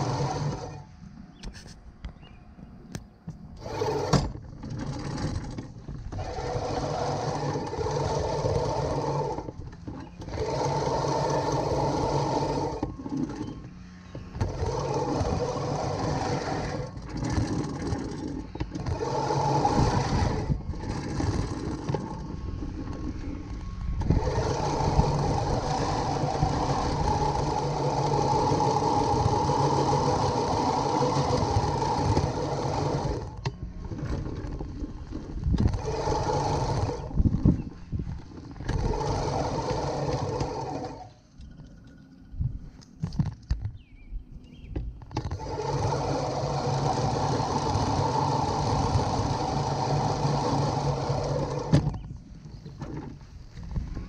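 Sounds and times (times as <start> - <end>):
reel mower blades whirring: 0.0 - 54.0.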